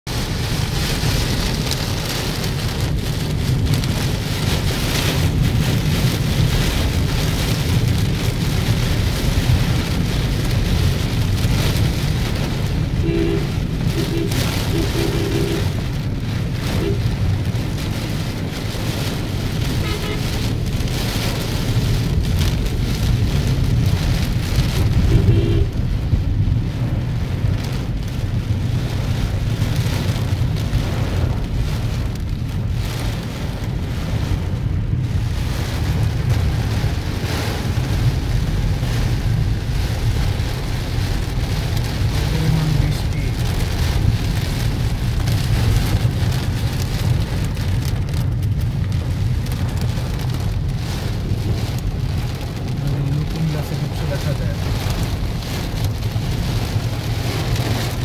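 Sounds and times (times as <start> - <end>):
heavy rain on car roof: 0.0 - 58.0
low road rumble: 0.0 - 58.0.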